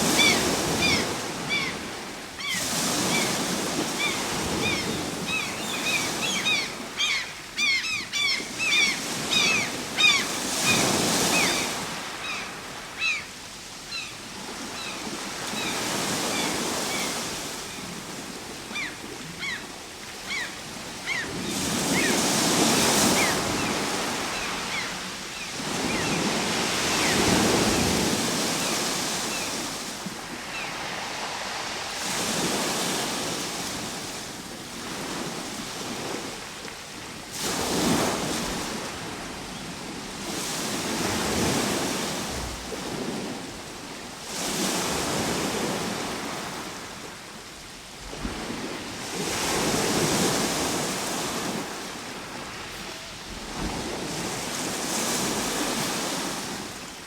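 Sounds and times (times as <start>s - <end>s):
waves breaking and washing back: 0.0s - 57.0s.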